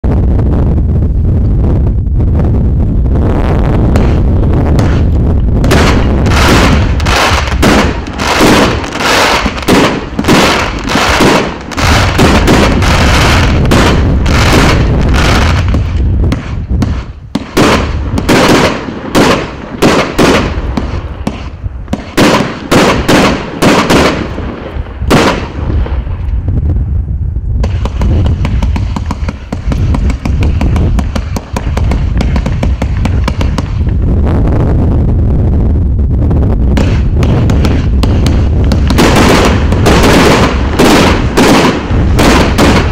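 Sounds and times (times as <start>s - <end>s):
fireworks launching and bursting: 0.0s - 42.9s.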